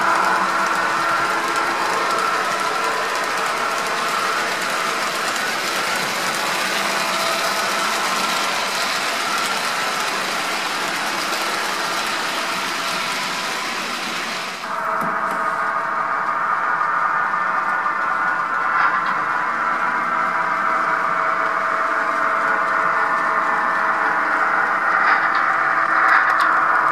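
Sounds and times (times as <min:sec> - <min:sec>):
model train wheels on track: 0:00.0 - 0:26.9.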